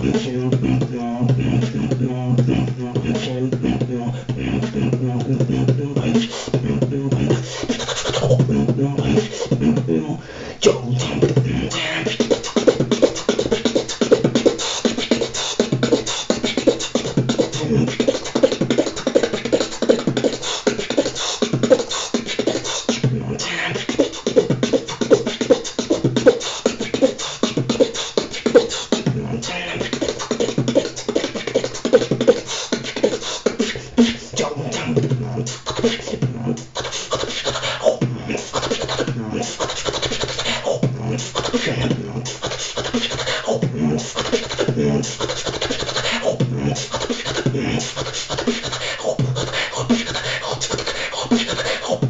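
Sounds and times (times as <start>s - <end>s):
beatboxing: 0.0s - 52.0s.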